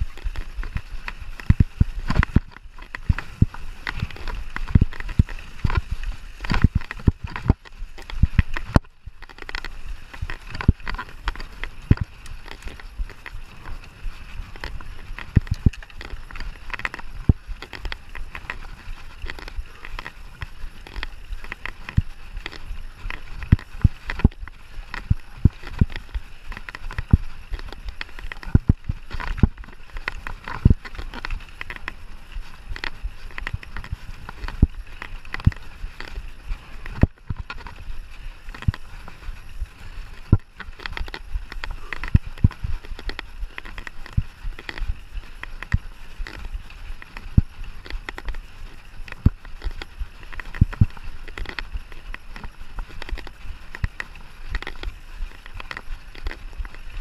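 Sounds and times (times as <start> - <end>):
bike knocking and rattling: 0.0 - 57.0
wind: 0.0 - 57.0.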